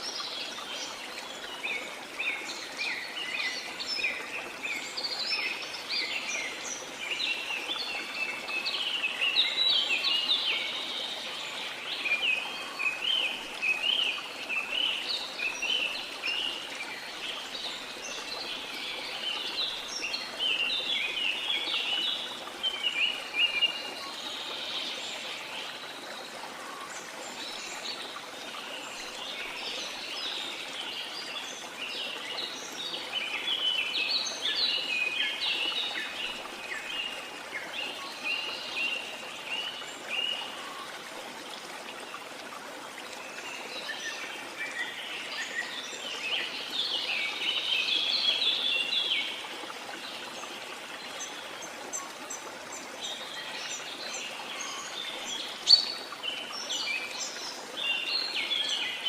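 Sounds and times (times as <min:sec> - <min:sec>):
rush of water: 0:00.0 - 0:59.0.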